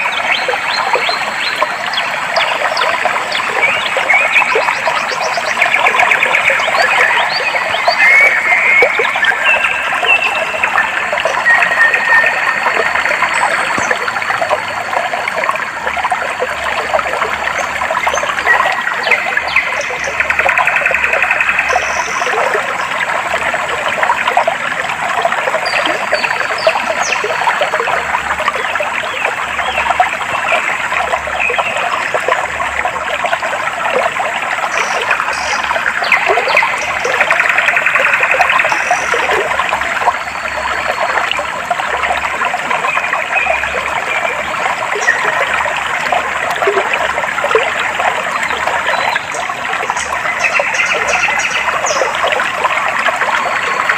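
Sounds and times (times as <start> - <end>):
stream water trickling: 0.0 - 53.9.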